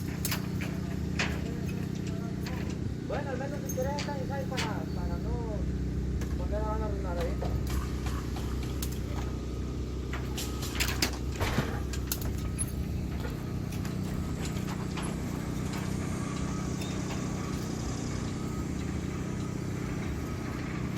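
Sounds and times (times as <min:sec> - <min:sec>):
low engine hum: 0:00.0 - 0:20.9.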